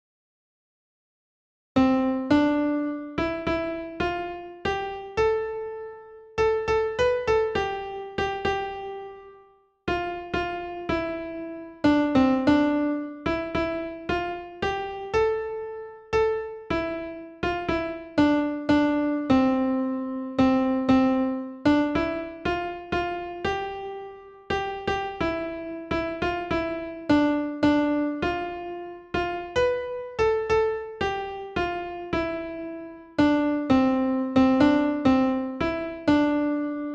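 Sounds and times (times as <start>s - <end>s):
keyboard melody: 1.8s - 36.9s.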